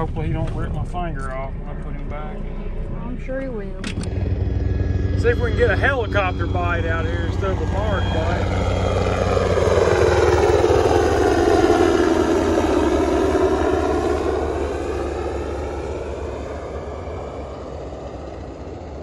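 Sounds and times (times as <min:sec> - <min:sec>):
helicopter flying past: 0:00.0 - 0:19.0.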